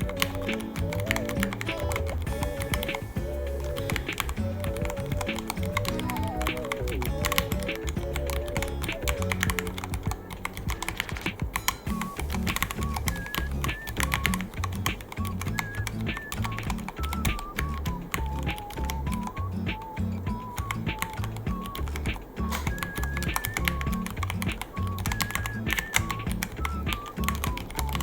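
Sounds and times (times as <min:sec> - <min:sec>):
background music with bass beat: 0:00.0 - 0:28.0.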